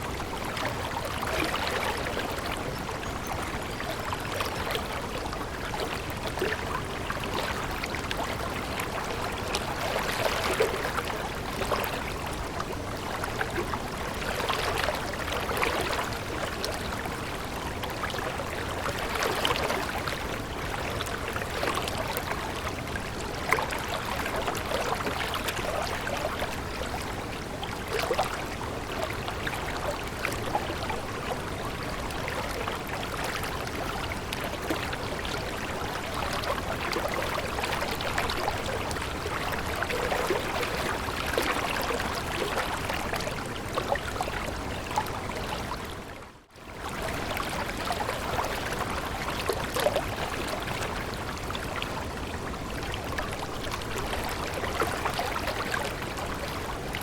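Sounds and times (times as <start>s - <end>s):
small water splashes: 0.0s - 57.0s
stream babbling: 0.0s - 57.0s.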